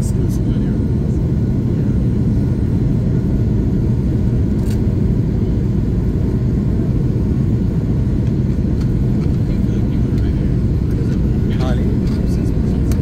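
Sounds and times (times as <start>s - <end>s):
jet engines and wheels rumbling: 0.0s - 13.0s.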